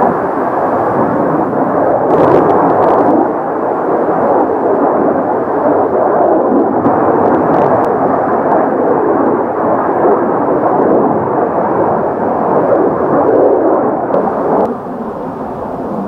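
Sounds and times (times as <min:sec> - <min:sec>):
jet engines roaring overhead: 0:00.0 - 0:16.0.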